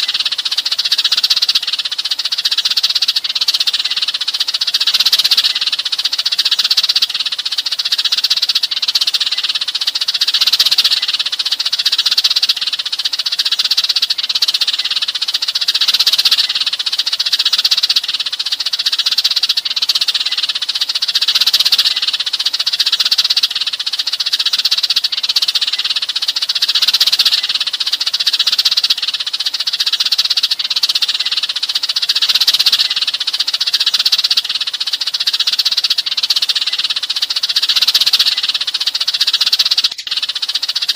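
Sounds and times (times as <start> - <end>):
sparrows chirping: 0.0 - 40.9.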